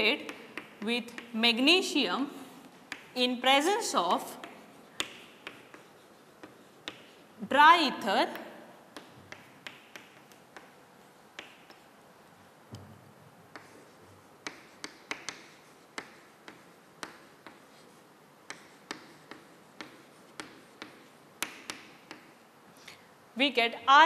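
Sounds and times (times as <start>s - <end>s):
chalk tapping on blackboard: 0.0s - 2.0s, 2.6s - 22.6s.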